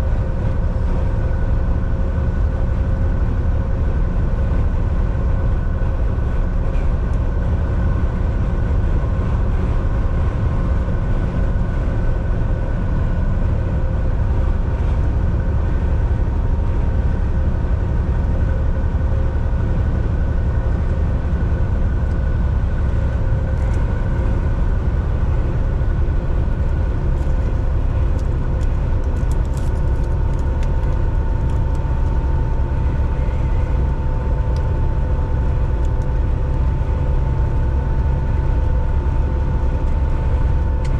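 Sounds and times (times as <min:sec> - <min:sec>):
truck engine and road rumble: 0:00.0 - 0:40.9.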